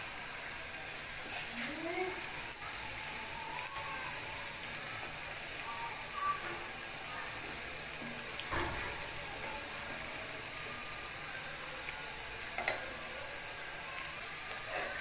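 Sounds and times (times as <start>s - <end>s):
onions sizzling in a frying pan: 0.0s - 15.0s.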